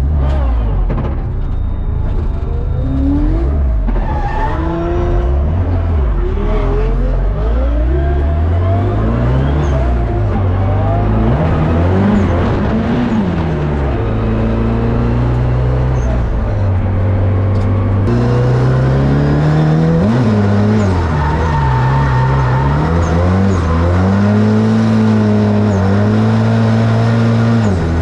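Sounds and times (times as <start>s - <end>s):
car engine revving: 2.0s - 28.0s.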